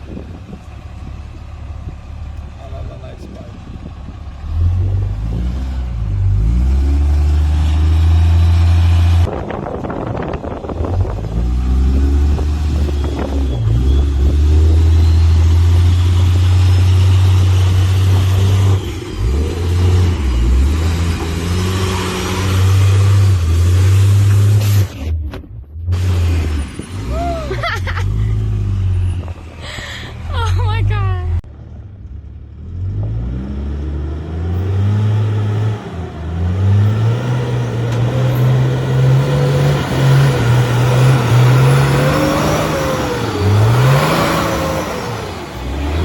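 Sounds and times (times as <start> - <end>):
diesel truck engines revving: 0.0 - 46.0.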